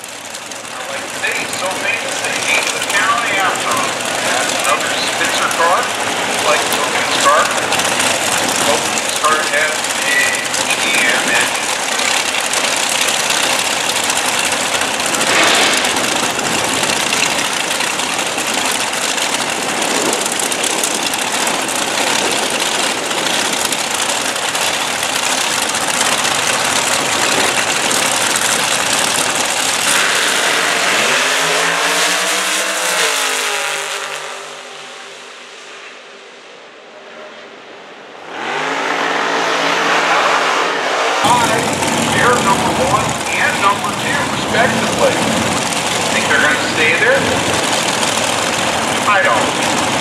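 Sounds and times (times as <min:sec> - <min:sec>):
distant engine tone: 0:00.0 - 0:50.0
race engines running loudly: 0:00.0 - 0:50.0.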